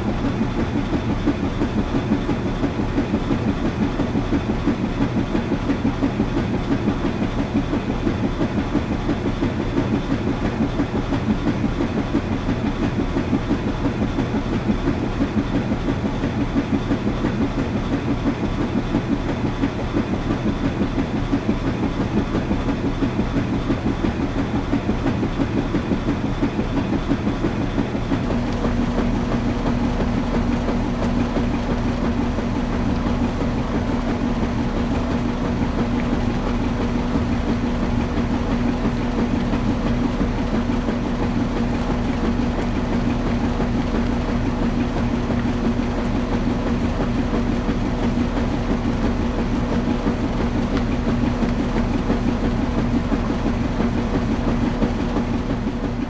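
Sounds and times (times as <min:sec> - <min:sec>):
washing machine churning: 0:00.0 - 0:56.0.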